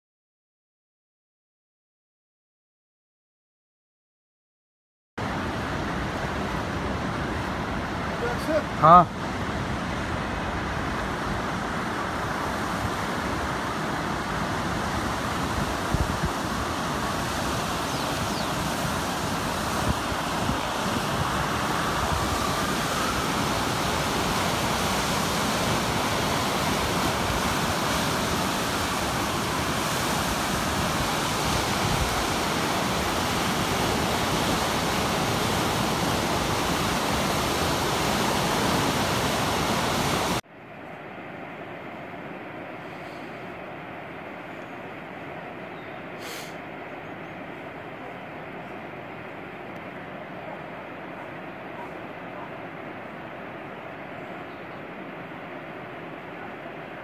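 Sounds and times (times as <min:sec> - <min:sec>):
river rushing over rapids: 0:05.2 - 0:57.0.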